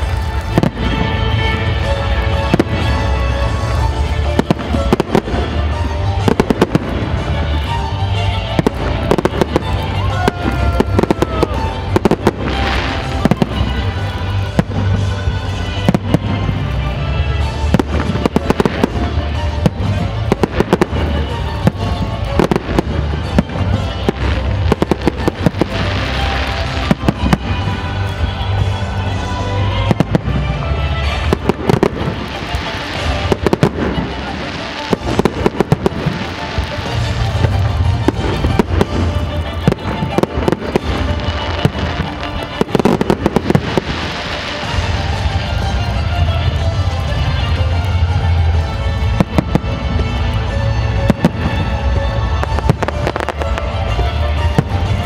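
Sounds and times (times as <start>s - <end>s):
crackling hiss of fireworks: 0.0s - 55.0s
fireworks bursting: 0.0s - 55.0s
music playing: 0.0s - 55.0s.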